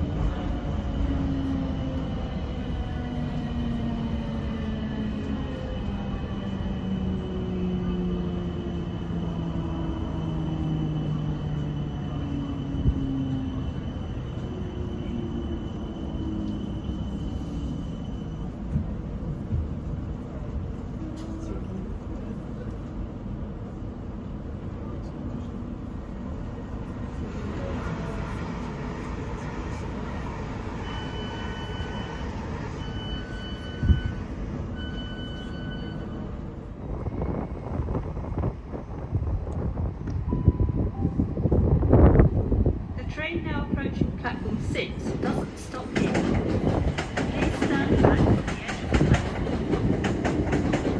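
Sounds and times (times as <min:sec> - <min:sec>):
electric train rumbling: 0:00.0 - 0:50.9.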